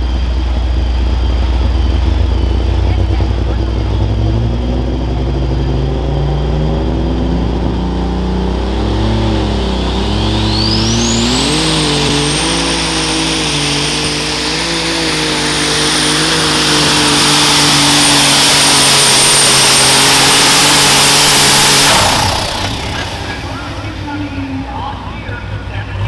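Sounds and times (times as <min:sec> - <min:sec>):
high turbo whine: 0:00.0 - 0:26.0
tractor engine under load: 0:00.0 - 0:26.0.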